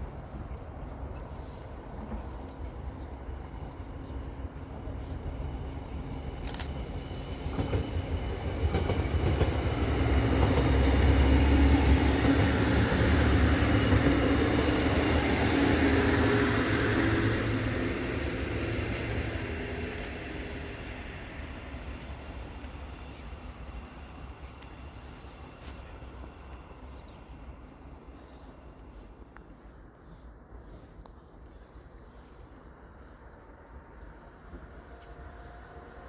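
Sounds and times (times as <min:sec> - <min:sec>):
passenger train passing: 0:00.0 - 0:36.0.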